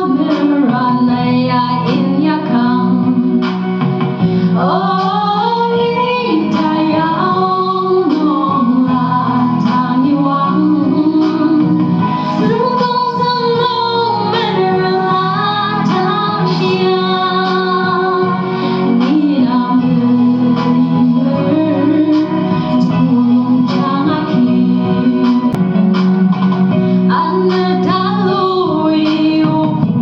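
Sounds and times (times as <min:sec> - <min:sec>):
instrumental backing: 0:00.0 - 0:30.0
woman singing song: 0:00.0 - 0:30.0.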